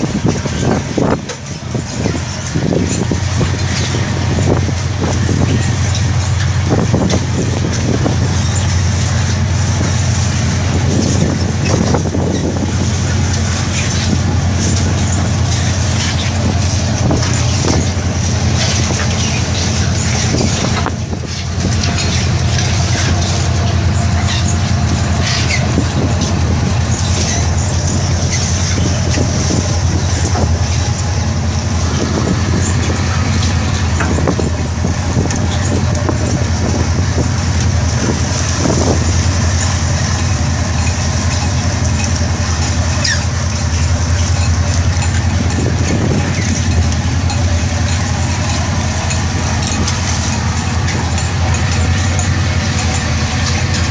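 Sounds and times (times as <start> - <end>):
jigging machines clattering: 0.0 - 53.9
low machinery drone: 0.0 - 53.9.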